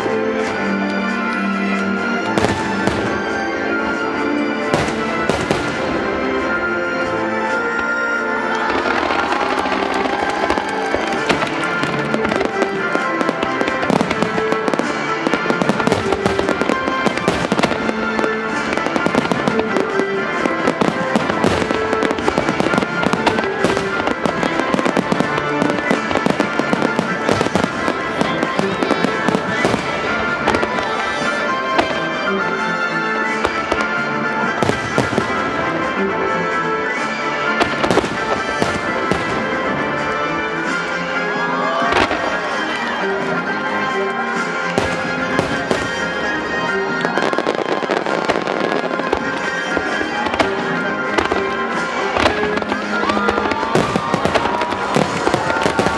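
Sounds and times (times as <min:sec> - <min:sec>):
fireworks bursting and crackling: 0:00.0 - 0:55.9
music: 0:00.0 - 0:55.9.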